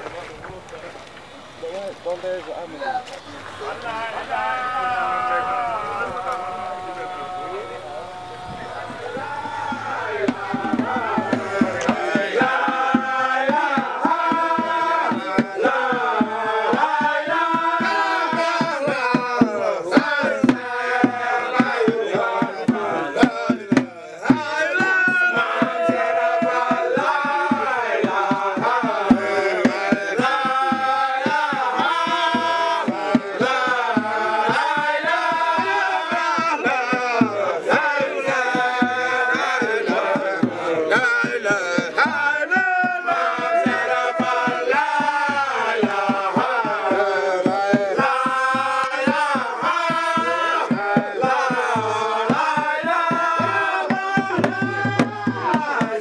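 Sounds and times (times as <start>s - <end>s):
voices chanting a melody: 0.0s - 56.0s
steady drum beat: 3.2s - 56.0s.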